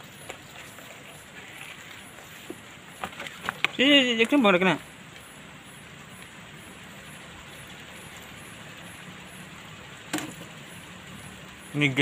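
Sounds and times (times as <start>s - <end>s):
fish grilling over charcoal: 0.0s - 12.0s.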